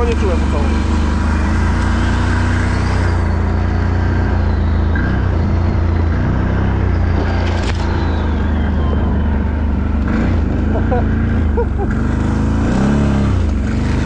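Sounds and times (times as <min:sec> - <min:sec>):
quad bike engine droning: 0:00.0 - 0:14.0.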